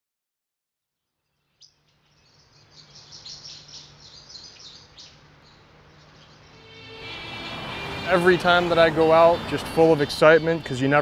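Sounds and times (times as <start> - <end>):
birds chirping: 1.2 - 11.0.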